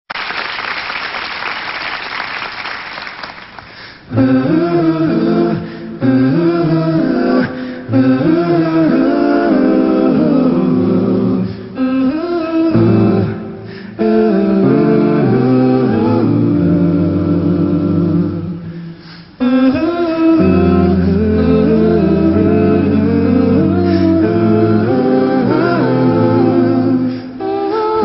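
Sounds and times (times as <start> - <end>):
male group singing a cappella: 4.1 - 28.0.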